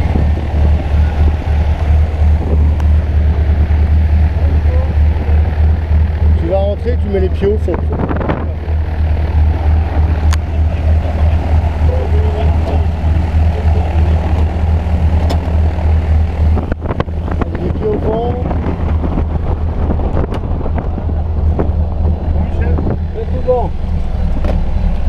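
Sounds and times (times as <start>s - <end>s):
propeller plane engine idling: 0.0s - 25.0s
wind buffeting microphone: 0.0s - 25.0s.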